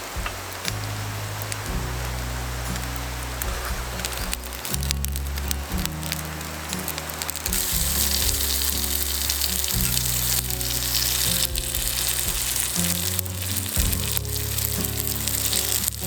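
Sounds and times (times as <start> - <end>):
background music: 0.0 - 16.0
food sizzling in a hot pan: 1.0 - 16.0.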